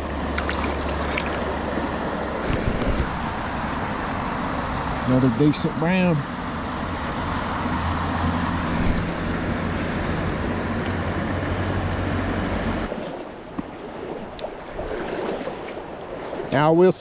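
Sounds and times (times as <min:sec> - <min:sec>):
wind rumble on microphone: 0:00.0 - 0:05.0, 0:06.3 - 0:16.6
creek water rushing: 0:00.0 - 0:17.0.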